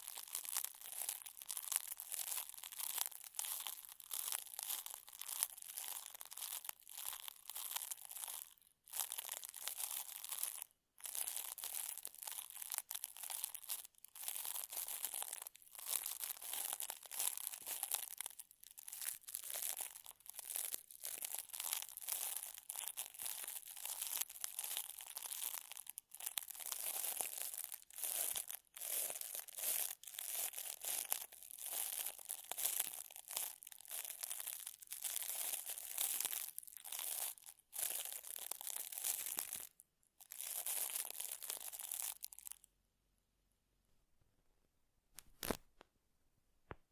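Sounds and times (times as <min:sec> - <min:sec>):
crinkling and scratchy rustling: 0:00.0 - 0:42.6, 0:45.2 - 0:45.8.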